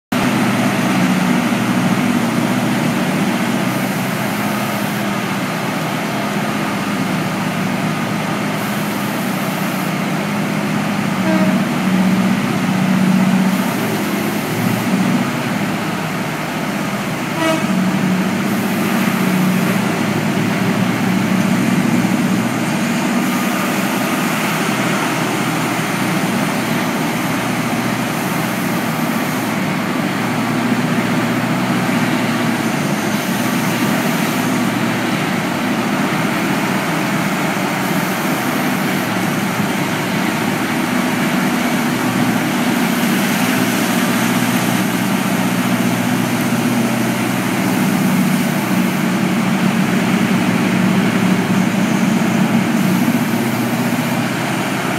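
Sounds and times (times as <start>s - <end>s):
deep diesel engine drone: 0.1s - 54.9s.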